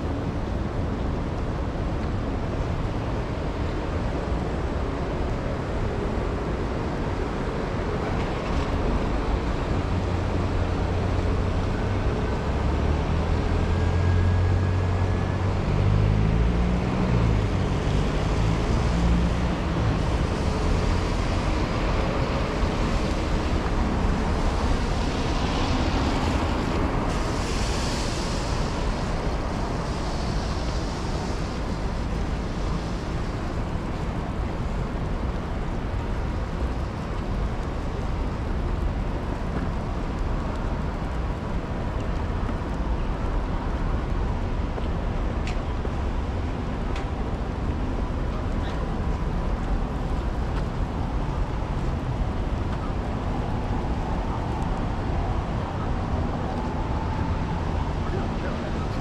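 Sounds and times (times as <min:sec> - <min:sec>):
traffic on wet roads: 0:00.0 - 0:59.0
vehicle engine rumble: 0:00.0 - 0:59.0.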